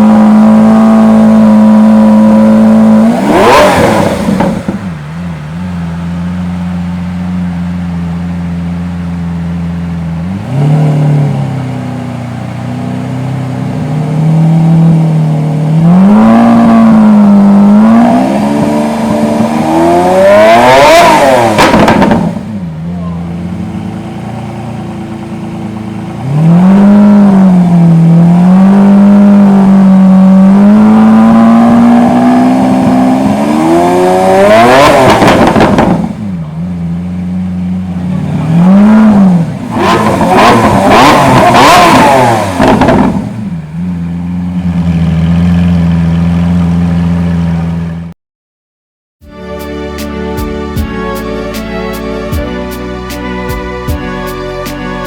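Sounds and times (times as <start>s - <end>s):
car engine idling and revving: 0.0s - 48.2s, 49.3s - 55.0s.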